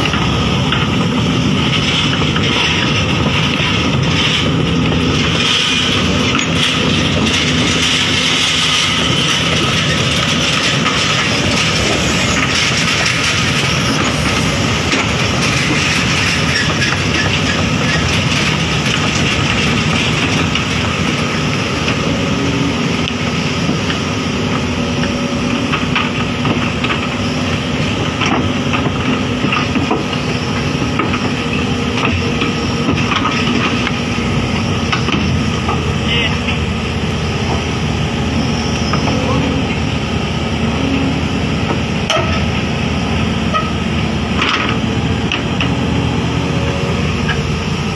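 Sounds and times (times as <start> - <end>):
excavator diesel engine running: 0.0 - 47.9
steel crawler tracks clanking: 0.0 - 47.9.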